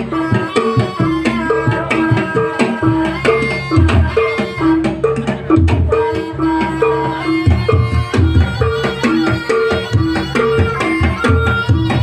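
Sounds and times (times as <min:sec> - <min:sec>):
hand drums beating: 0:00.0 - 0:12.0
high-pitched instruments ringing: 0:00.0 - 0:12.0.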